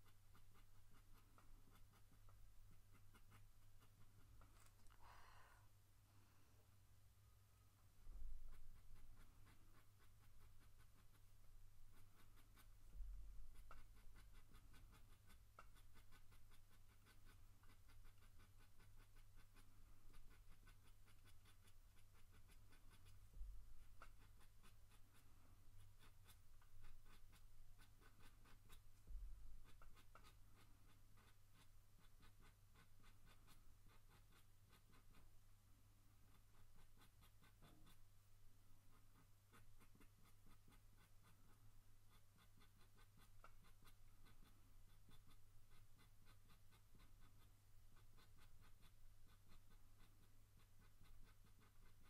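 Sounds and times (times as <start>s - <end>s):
pencil scratching on paper: 0.0s - 4.9s, 8.0s - 52.0s.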